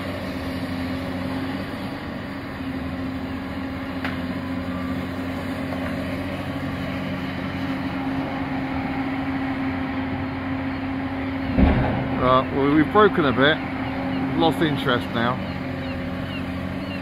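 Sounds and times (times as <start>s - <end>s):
heavy machinery engine humming: 0.0s - 17.0s.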